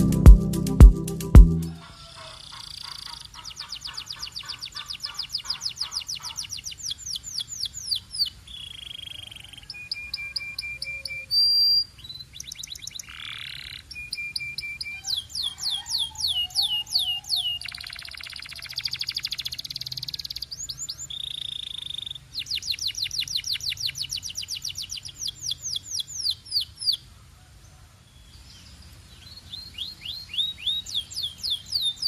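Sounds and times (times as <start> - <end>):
canary singing trills: 1.7 - 27.0, 29.2 - 32.0.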